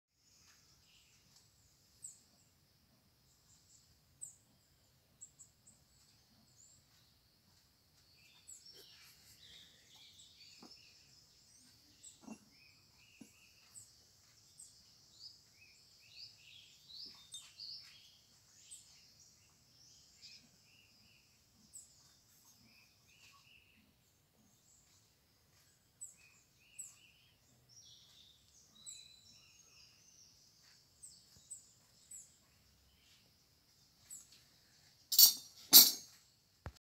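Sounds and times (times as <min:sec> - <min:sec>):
faint birds chirping: 0:00.1 - 0:36.8.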